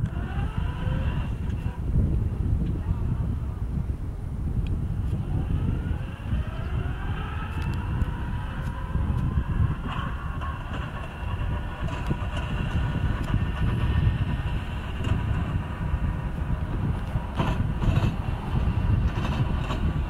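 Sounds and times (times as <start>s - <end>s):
heavy low rumble: 0.0s - 20.0s
light aircraft engine and propeller: 0.0s - 20.0s.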